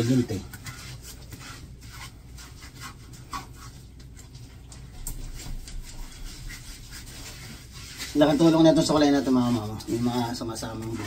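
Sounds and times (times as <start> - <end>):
rubber brush rubbing wet fur: 0.0 - 11.0.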